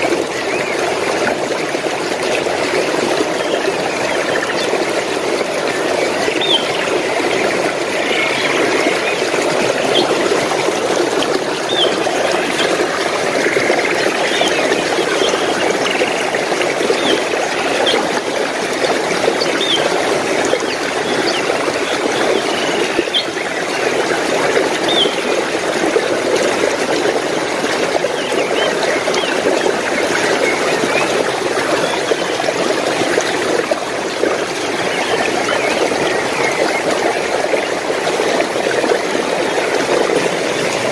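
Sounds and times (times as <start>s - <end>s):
stream of water trickling: 0.0s - 40.9s.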